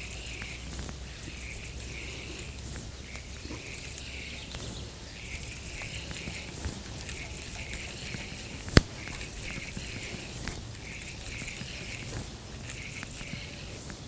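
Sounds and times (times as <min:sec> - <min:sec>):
distant animal chorus calling: 0:00.0 - 0:14.0
low outdoor hiss: 0:00.0 - 0:14.0
sharp click: 0:00.0 - 0:14.0.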